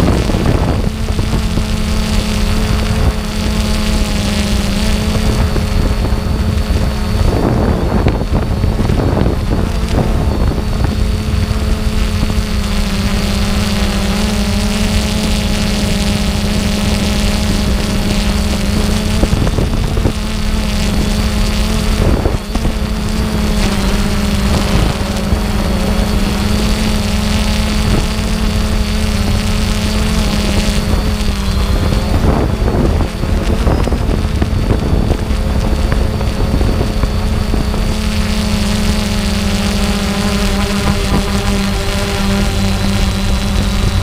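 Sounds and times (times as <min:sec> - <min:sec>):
engine running steadily: 0:00.0 - 0:44.0
wind rumble on microphone: 0:00.0 - 0:44.0.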